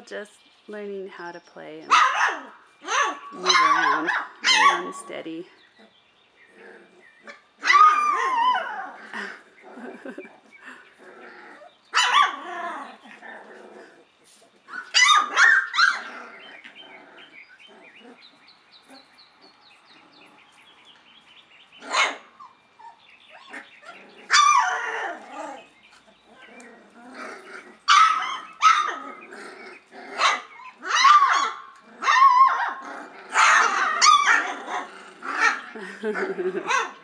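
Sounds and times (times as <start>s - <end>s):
puppies yapping and barking: 1.8s - 37.0s.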